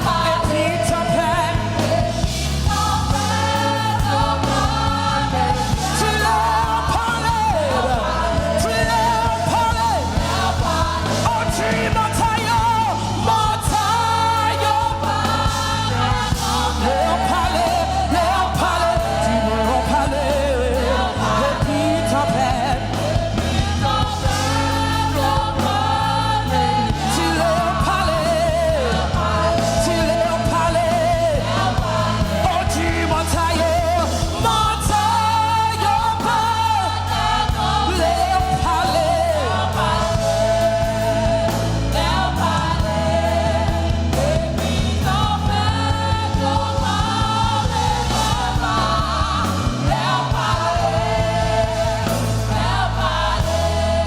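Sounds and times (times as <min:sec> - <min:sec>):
band with steady bass: 0:00.0 - 0:54.0
voices singing: 0:00.0 - 0:54.0.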